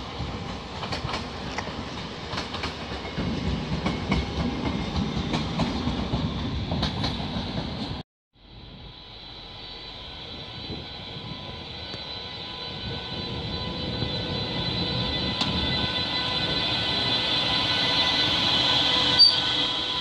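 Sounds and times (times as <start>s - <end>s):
electric locomotive whine: 0.0s - 20.0s.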